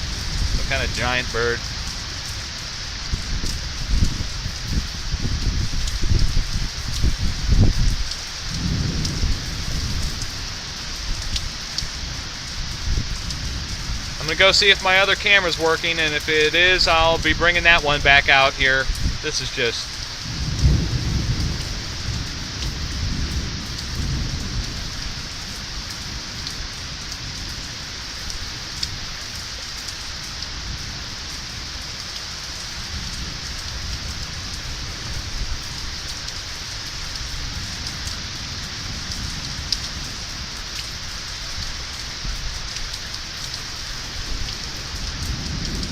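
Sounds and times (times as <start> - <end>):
distant thunder rumble: 0.0 - 29.6, 30.4 - 45.9
raindrop ticks: 0.0 - 45.9
steady rain falling: 0.0 - 45.9.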